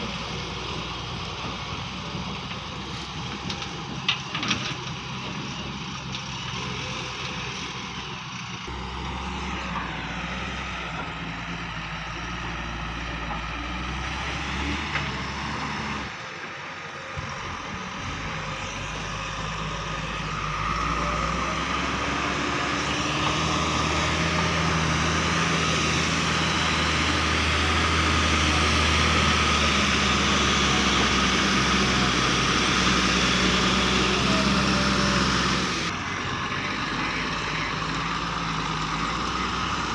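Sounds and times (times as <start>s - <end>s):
heavy diesel engine under load: 0.0s - 39.9s.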